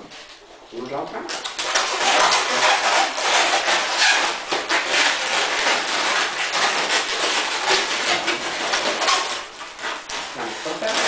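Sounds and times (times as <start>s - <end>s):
balloons rubbing and scraping: 1.3s - 11.0s.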